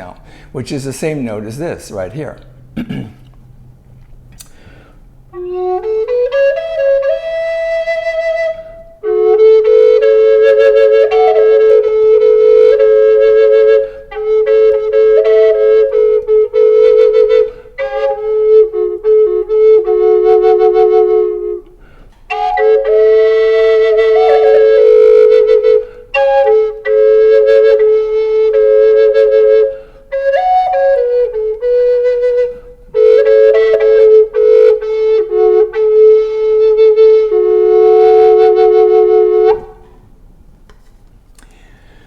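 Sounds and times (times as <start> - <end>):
flute drone note: 5.3 - 39.9
flute melody: 5.3 - 40.0.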